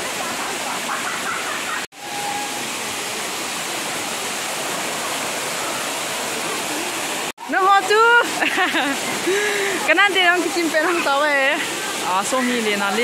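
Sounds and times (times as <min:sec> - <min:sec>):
waterfall splashing onto rocks: 0:00.0 - 0:13.0.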